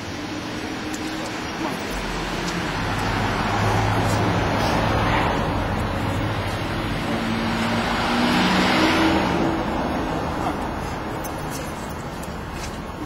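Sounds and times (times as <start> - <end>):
car passing on wet street: 0.0 - 13.0.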